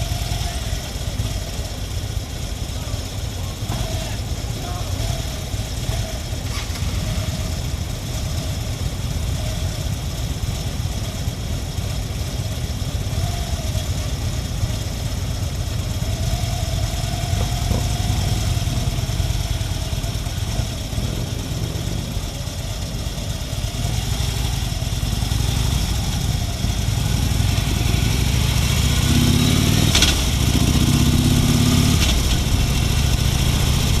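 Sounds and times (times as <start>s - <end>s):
motorcycle engine revving: 0.0s - 34.0s
motorcycle engines rumbling: 0.0s - 34.0s.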